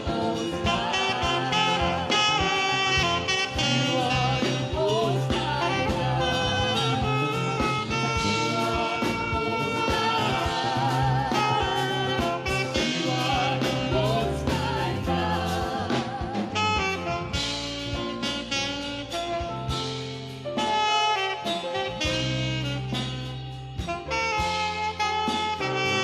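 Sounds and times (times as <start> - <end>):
backing track with bass and drums: 0.0 - 26.0
saxophone slow melody: 0.0 - 26.0.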